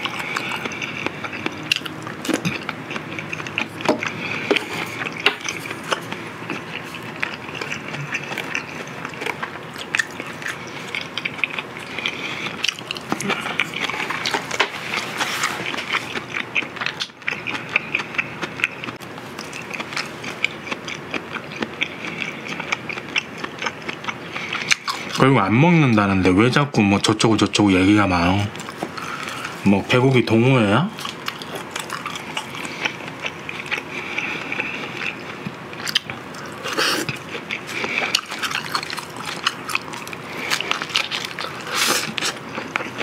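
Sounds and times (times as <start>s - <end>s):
person chewing: 0.0s - 25.2s, 28.5s - 30.0s, 30.9s - 43.0s.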